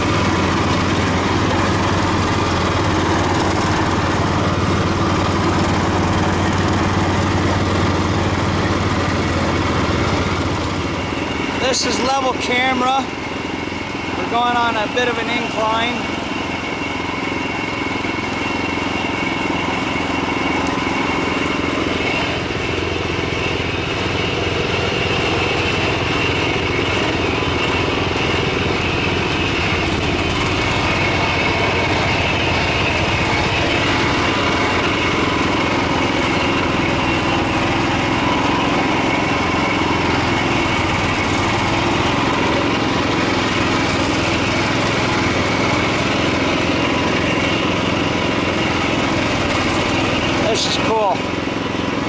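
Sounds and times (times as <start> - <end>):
small tractor engine running: 0.0 - 52.0.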